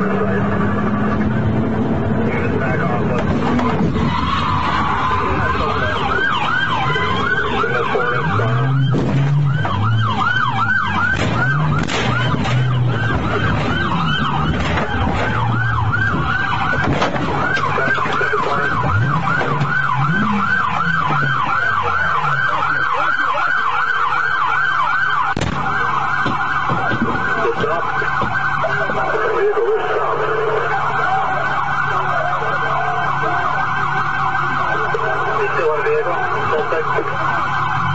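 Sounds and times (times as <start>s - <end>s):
low engine tone: 0.0s - 37.9s
police siren yelping: 0.0s - 37.9s.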